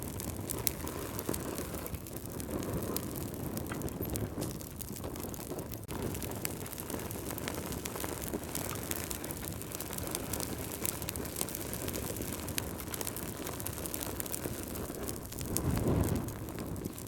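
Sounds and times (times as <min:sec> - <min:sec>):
fire crackling and popping: 0:00.0 - 0:17.0
low rush of fire: 0:00.0 - 0:17.0.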